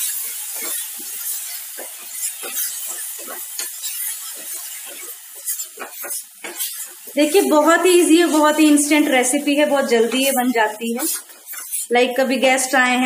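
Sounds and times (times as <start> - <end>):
food sizzling in a pan: 0.0 - 13.0
spatula scraping a pan: 0.0 - 13.0.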